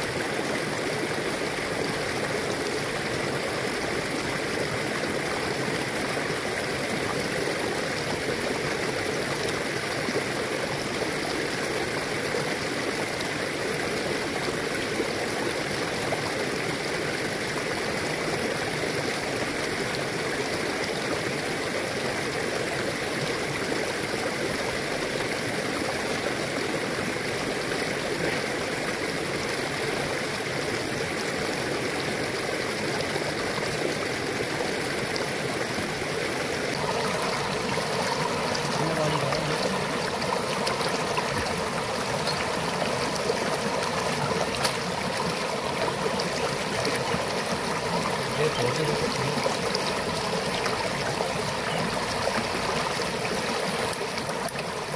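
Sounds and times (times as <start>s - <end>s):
river flowing over stones: 0.0s - 54.9s.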